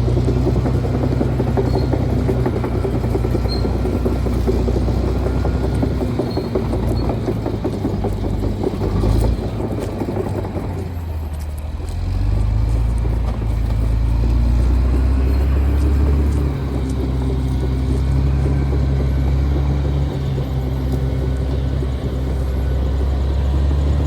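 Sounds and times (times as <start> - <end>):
bulldozer diesel engine: 0.0 - 24.0
rattling track clatter: 0.0 - 24.0.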